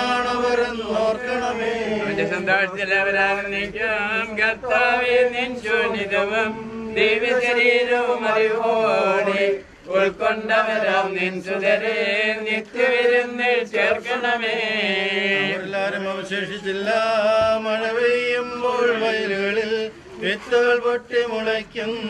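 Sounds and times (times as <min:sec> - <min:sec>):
person singing a slow hymn: 0:00.0 - 0:22.0.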